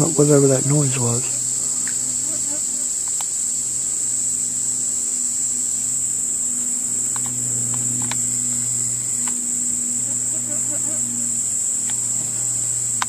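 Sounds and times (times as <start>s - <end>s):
insects shrilling: 0.0s - 13.0s
low steady hum: 0.0s - 13.0s.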